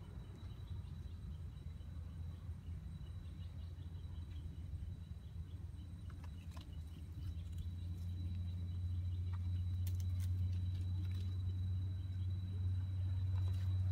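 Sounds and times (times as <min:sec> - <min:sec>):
low hum: 0:00.0 - 0:13.9.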